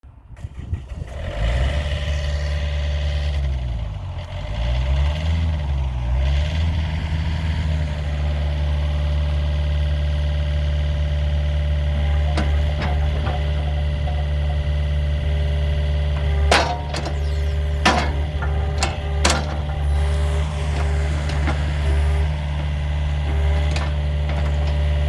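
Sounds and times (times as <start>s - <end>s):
diesel engine running: 0.5s - 25.0s.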